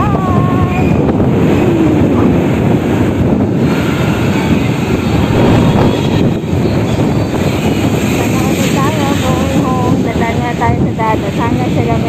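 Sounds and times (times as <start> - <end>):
road and traffic rumble: 0.0 - 12.0
wind buffeting microphone: 0.0 - 12.0.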